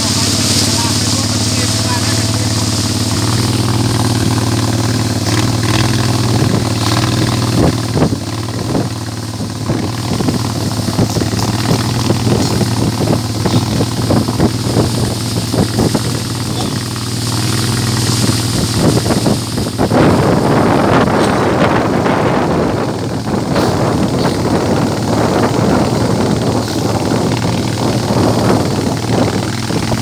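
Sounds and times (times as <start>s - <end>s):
motorboat engine running: 0.0s - 30.0s.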